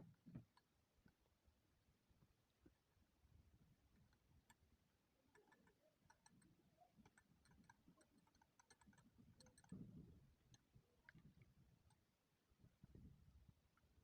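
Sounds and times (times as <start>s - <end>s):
faint light clicks and ticks: 0.0s - 1.4s, 3.5s - 14.0s.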